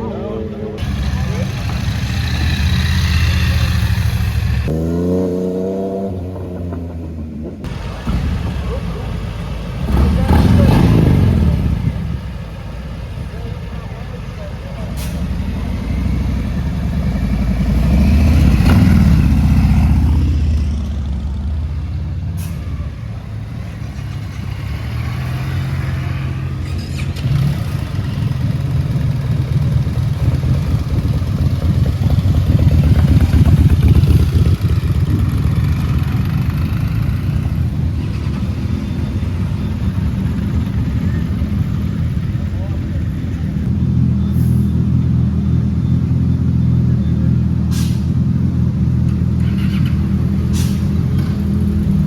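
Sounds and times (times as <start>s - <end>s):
motorcycle engines rumbling: 0.0s - 52.0s.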